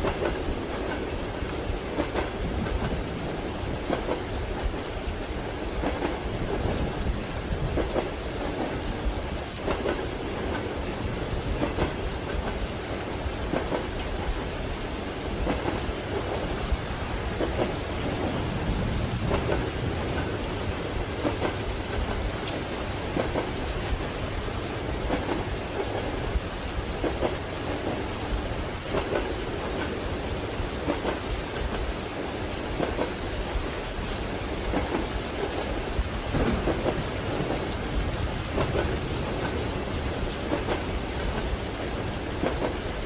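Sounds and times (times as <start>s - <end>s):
rain on train carriage: 0.0s - 43.0s
train wheels clacking over joints: 0.0s - 43.0s.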